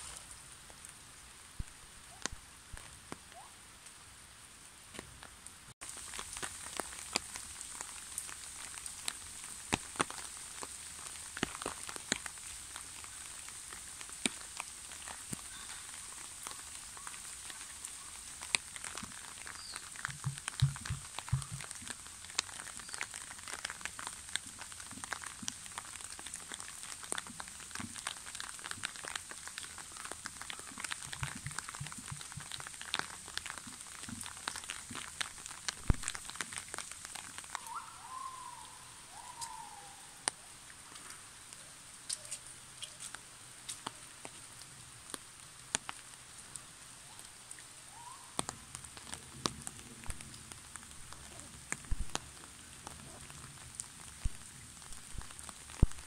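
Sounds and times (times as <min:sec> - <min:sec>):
raindrops ticking close by: 0:00.0 - 0:56.0
steady rain: 0:00.0 - 0:56.0.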